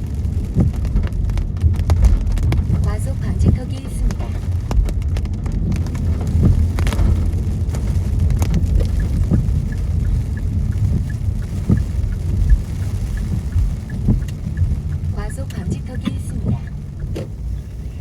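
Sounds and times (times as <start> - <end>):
raindrops tapping on windshield: 0.0 - 18.0
road and tyre rumble: 0.0 - 18.0.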